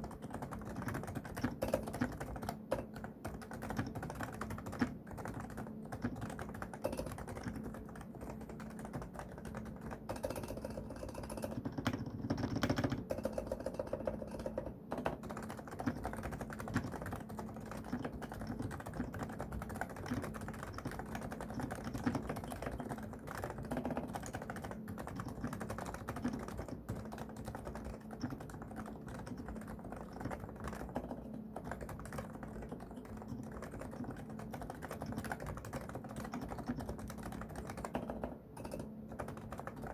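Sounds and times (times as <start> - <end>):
dull keyboard typing: 0.0 - 39.9.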